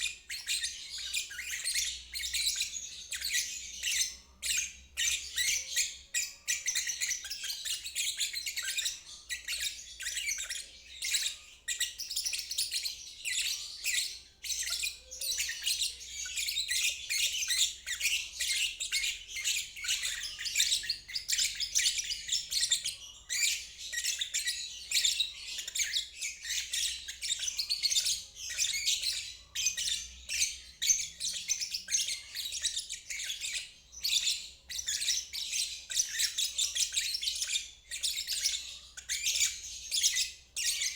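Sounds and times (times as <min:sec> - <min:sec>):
bird chattering and chirping: 0:00.0 - 0:40.9.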